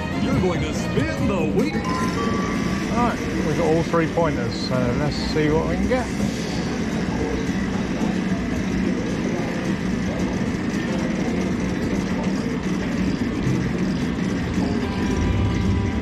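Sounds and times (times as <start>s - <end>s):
low rumble and hum: 0.1s - 16.0s.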